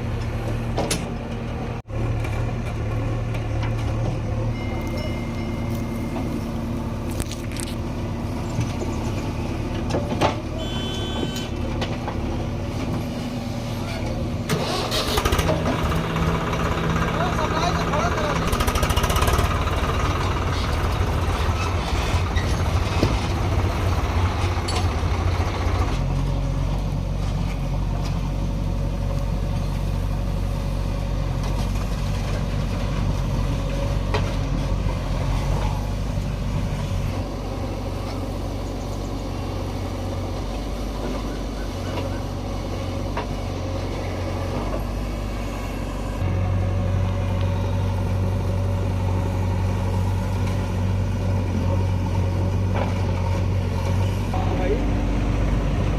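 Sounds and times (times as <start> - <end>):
diesel machinery engine running: 0.0 - 55.9.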